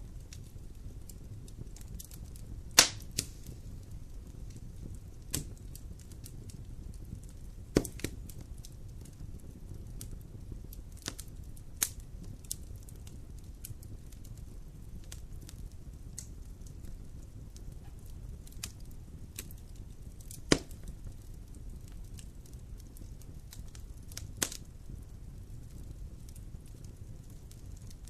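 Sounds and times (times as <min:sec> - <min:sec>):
fire pops and crackles: 0:00.0 - 0:28.0
wood fire burning: 0:00.0 - 0:28.0.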